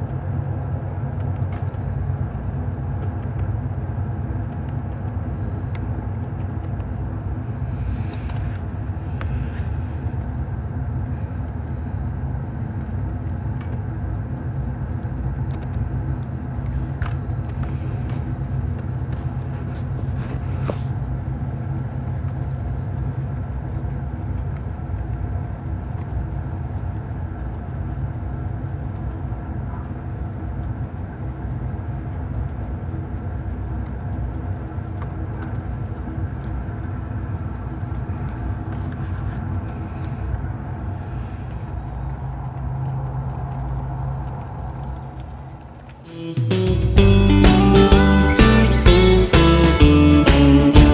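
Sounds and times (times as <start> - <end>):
diesel locomotive engine rumble: 0.0 - 50.9.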